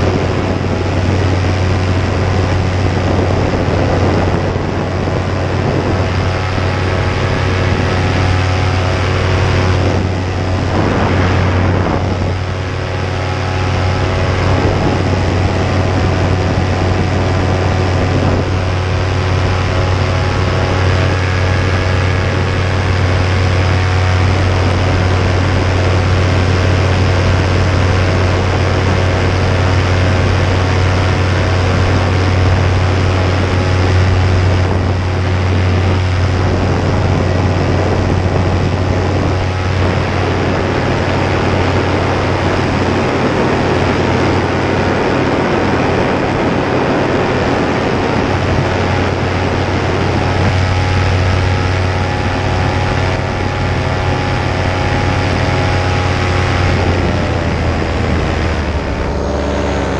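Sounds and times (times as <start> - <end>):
paramotor engine droning: 0.0 - 59.9.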